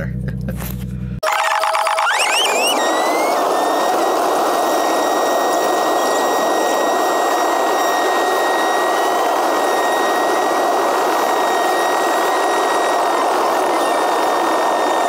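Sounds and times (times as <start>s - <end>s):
thin steady whine: 0.5s - 15.0s.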